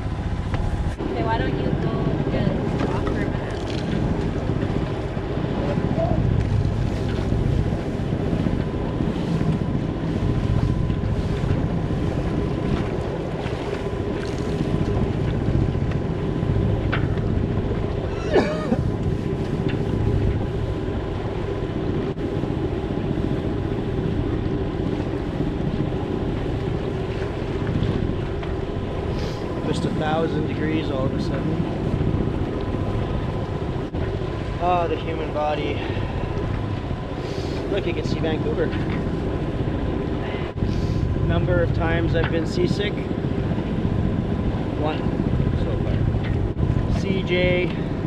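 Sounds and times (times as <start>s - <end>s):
boat engine humming: 0.0s - 48.0s
water rushing along hull: 0.0s - 48.0s
wind buffeting microphone: 0.0s - 48.0s.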